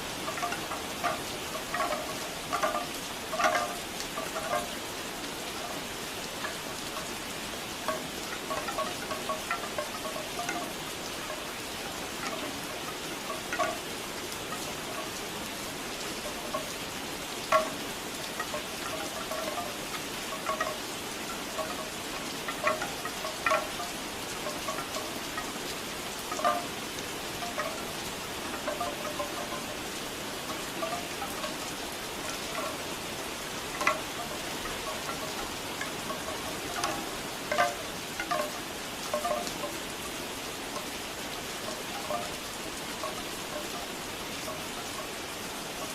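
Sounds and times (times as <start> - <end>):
bamboo wind chimes clacking: 0.0 - 45.9
rain: 0.0 - 45.9.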